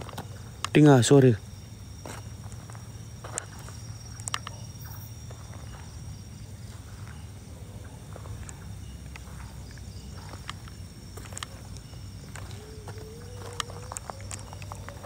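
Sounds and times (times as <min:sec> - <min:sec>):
footsteps on gravelly dirt: 0:00.0 - 0:00.8, 0:01.8 - 0:15.0.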